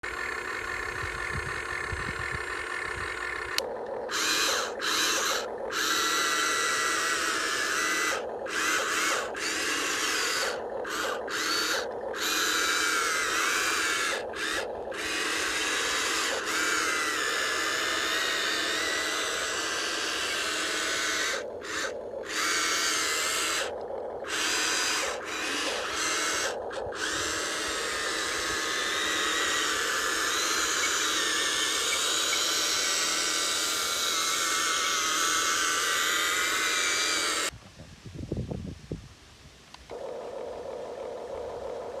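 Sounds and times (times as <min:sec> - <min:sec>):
toy electric motors whining: 0:00.0 - 0:37.6, 0:39.8 - 0:42.0.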